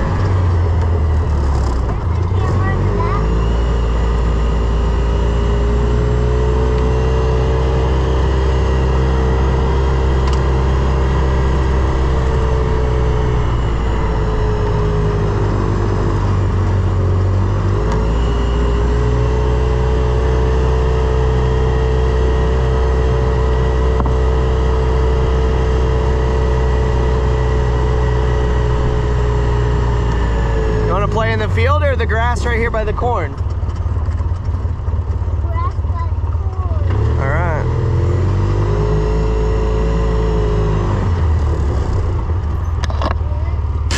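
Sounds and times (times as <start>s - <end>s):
utility vehicle engine running: 0.0s - 43.9s.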